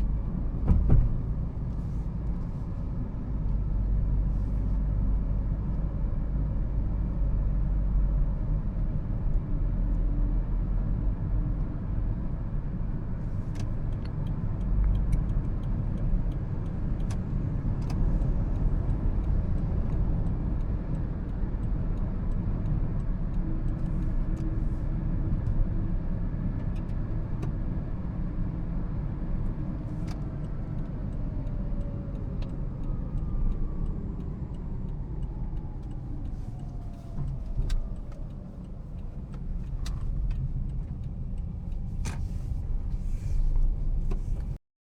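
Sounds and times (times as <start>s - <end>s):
road and drivetrain rumble: 0.0s - 44.6s.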